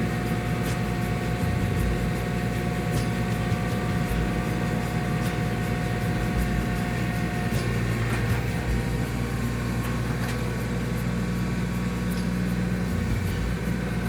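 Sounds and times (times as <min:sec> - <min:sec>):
motor droning: 0:00.0 - 0:14.0.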